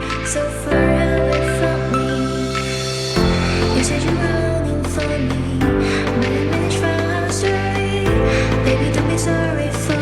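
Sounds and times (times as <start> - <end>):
background music with bass and melody: 0.0 - 10.0.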